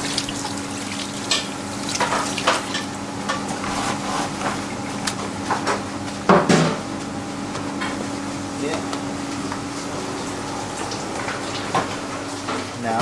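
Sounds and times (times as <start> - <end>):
tap running water: 0.0 - 6.9, 8.7 - 13.0
kitchen equipment hum: 0.0 - 13.0.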